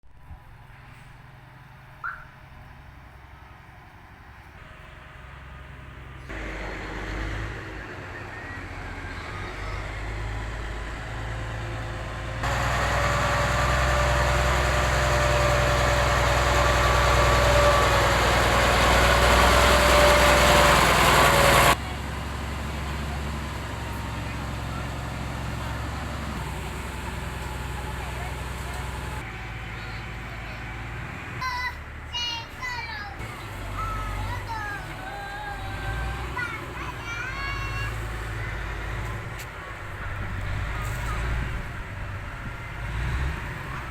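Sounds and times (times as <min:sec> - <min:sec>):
heavy vehicle engines running: 0:00.1 - 0:43.9.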